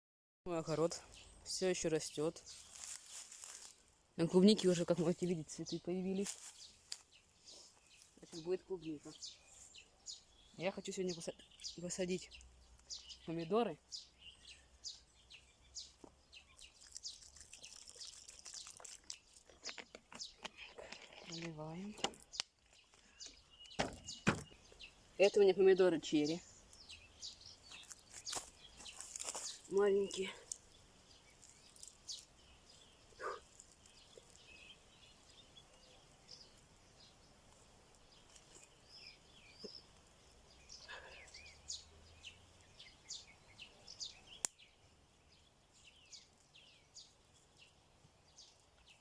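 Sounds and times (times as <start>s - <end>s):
small birds chirping: 0.5s - 49.0s.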